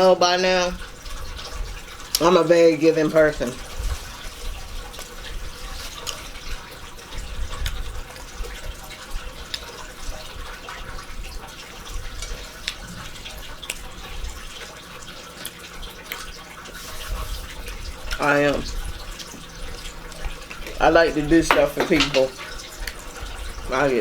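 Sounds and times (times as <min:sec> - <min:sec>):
water trickling: 0:00.0 - 0:24.0.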